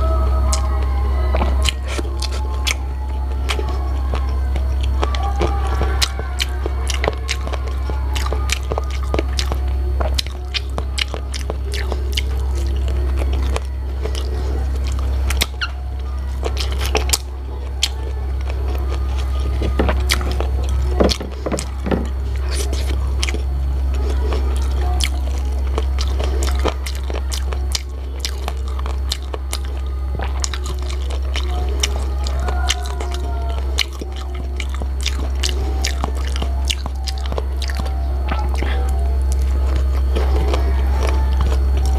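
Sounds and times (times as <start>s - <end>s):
steady low hum: 0.0s - 41.9s
wet eating smacks and chewing: 1.3s - 41.9s.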